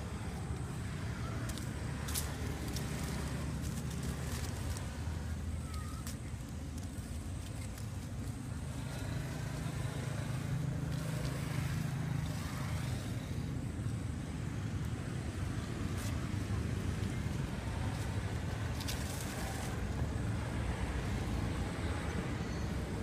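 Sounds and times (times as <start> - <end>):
engine rumbling: 0.0 - 23.0.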